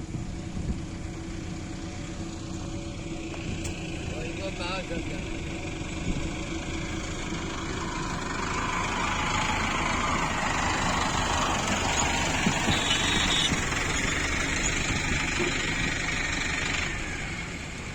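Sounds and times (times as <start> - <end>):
combine harvester running: 0.0 - 17.9.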